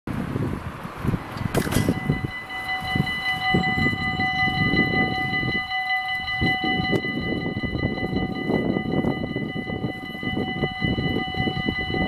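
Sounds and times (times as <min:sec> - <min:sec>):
level crossing warning bells: 0:01.6 - 0:12.0.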